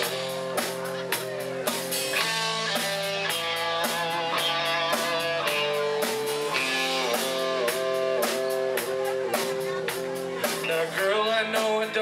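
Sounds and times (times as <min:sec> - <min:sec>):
live country-rock band playing: 0:00.0 - 0:12.0.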